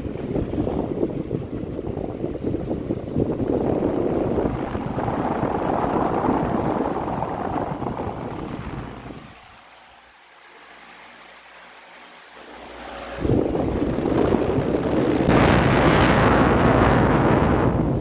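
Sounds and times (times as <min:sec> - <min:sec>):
faint motor hum: 0:00.0 - 0:18.0
fan wind rushing on microphone: 0:00.0 - 0:18.0.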